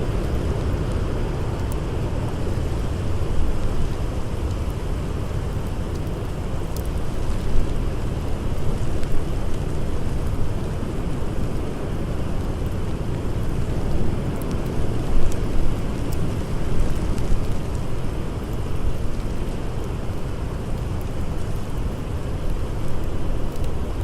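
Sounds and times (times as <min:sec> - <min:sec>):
campfire crackles: 0:00.0 - 0:24.0.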